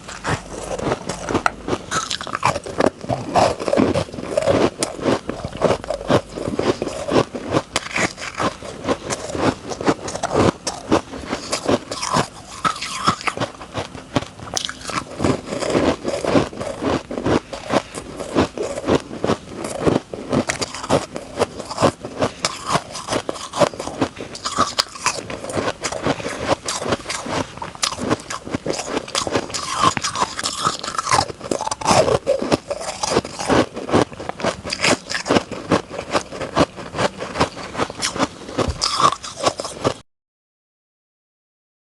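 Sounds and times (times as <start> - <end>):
crunching and chewing ice: 0.0 - 40.0.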